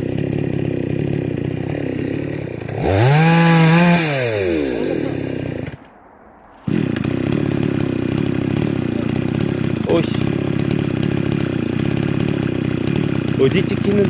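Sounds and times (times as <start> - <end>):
chainsaw engine idling and revving: 0.0 - 5.9, 6.6 - 14.0.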